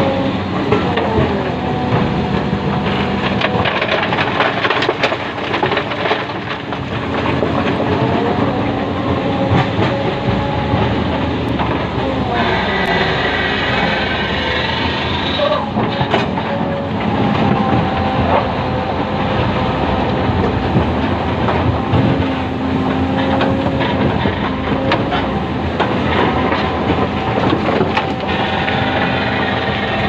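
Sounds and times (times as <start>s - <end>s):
excavator engine and hydraulics: 0.0s - 30.0s
hydraulic whining: 0.0s - 30.0s.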